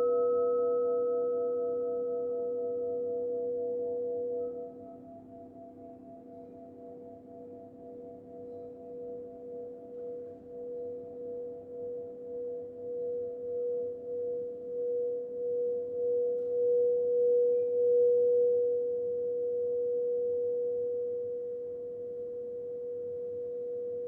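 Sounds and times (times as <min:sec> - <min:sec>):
crystal singing bowl tone: 0:00.0 - 0:24.0.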